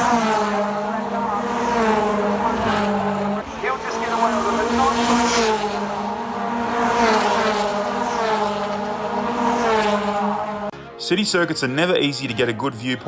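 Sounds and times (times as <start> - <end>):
race cars passing at speed: 0.0 - 10.8.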